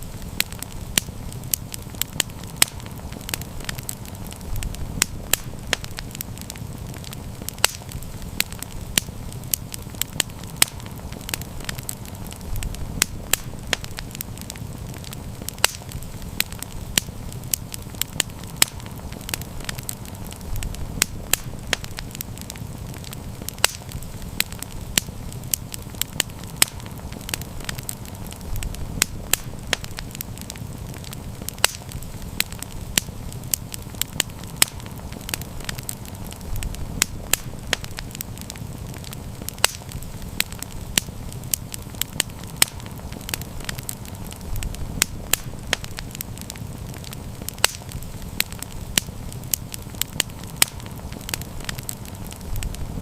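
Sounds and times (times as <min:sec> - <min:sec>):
campfire burning rumble: 0:00.0 - 0:53.0
fire pops and snaps: 0:00.0 - 0:53.0.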